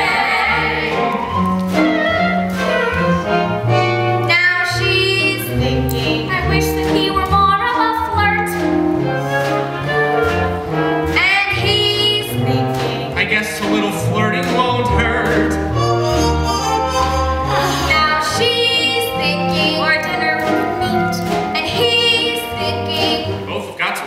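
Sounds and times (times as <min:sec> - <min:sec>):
orchestra playing: 0:00.0 - 0:24.0.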